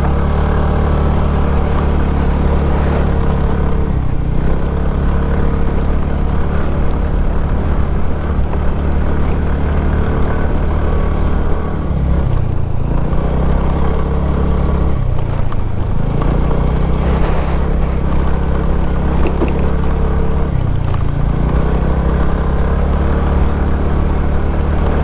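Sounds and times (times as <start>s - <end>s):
small motorbike engine running: 0.0s - 25.0s.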